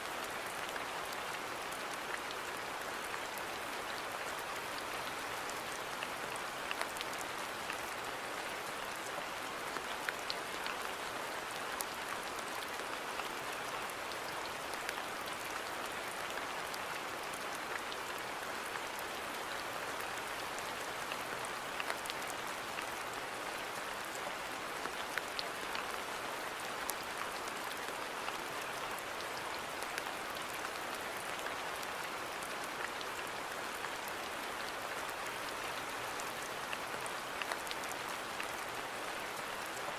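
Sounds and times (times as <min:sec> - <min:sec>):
rain falling on a garden: 0:00.0 - 0:39.9.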